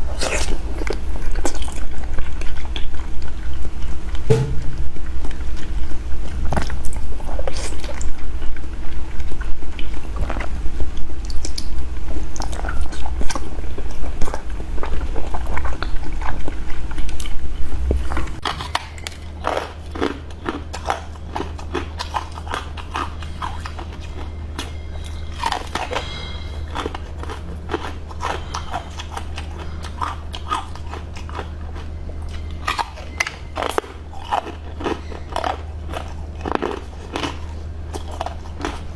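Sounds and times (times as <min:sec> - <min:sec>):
crunchy chewing: 0:00.0 - 0:04.3, 0:05.0 - 0:38.9.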